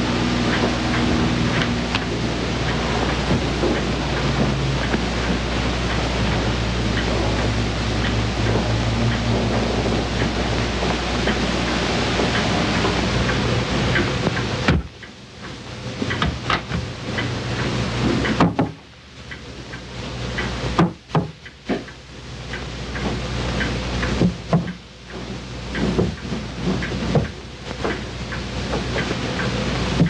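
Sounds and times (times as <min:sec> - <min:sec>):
low hum: 0:00.0 - 0:30.0
sharp clicks and knocks: 0:00.0 - 0:30.0.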